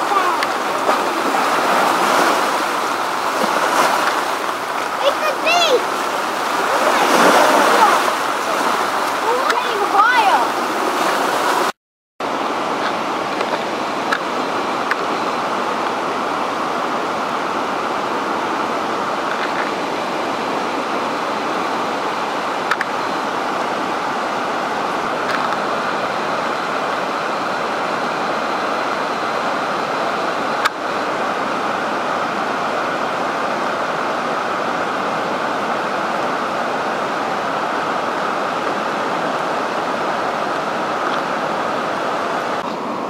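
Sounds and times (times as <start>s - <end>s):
heavy rushing floodwater: 0.0s - 43.0s.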